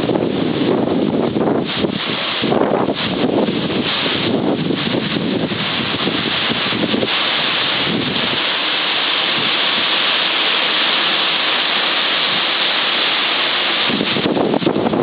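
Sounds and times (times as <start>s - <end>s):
heavy rain: 0.0s - 15.0s
wind: 0.0s - 15.0s.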